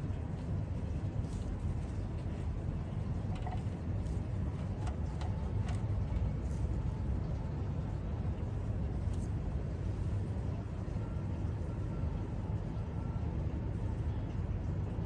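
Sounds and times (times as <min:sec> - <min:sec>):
low room noise rumble: 0:00.0 - 0:15.0.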